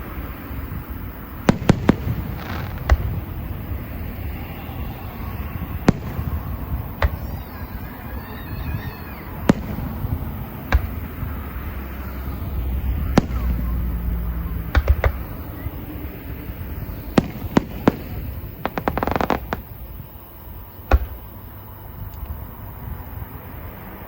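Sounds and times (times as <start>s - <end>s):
fireworks bangs: 0.0s - 22.1s.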